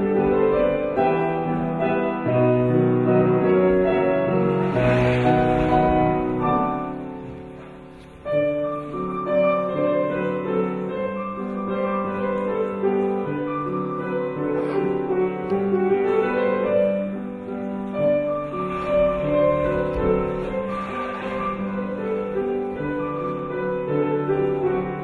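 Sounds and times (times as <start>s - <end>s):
piano accompaniment: 0.0s - 25.0s.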